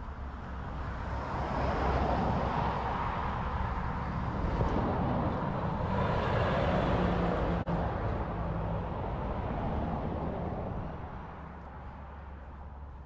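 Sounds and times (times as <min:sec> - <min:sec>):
passing vehicle tyres and engine: 0:00.0 - 0:13.0.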